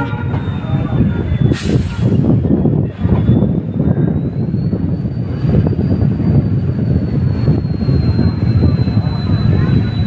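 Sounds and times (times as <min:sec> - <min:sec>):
diesel train rumbling: 0:00.0 - 0:10.0.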